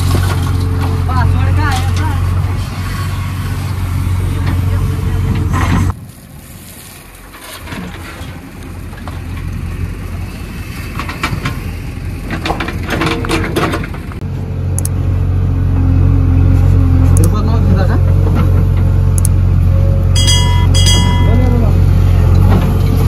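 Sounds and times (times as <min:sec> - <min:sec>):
diesel engine running under load: 0:00.0 - 0:06.4, 0:07.2 - 0:23.0.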